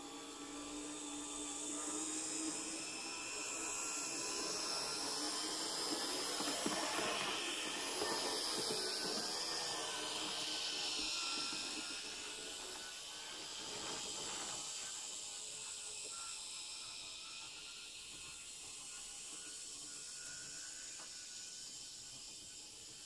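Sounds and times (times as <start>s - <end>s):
model train motor whine: 0.0s - 23.0s.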